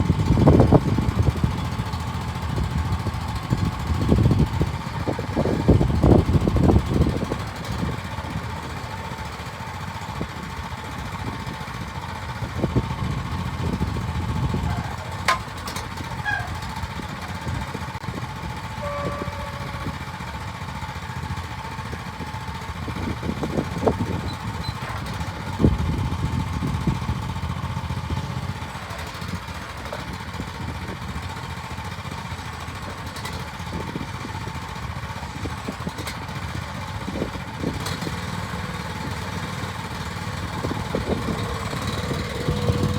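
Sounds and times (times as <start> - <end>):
excavator engine running: 0.0 - 42.9.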